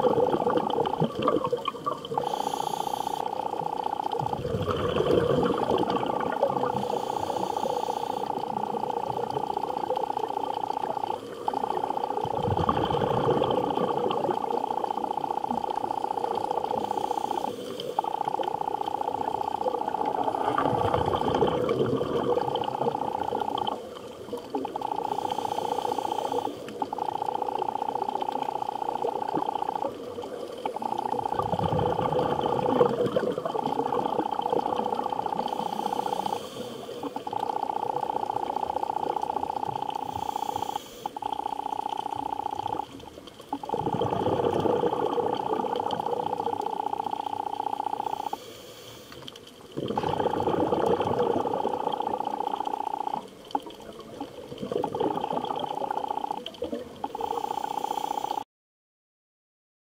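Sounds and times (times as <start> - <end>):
water gurgling and bubbling: 0.0 - 48.5, 49.4 - 58.4
steady mid-pitched hum: 0.0 - 58.4.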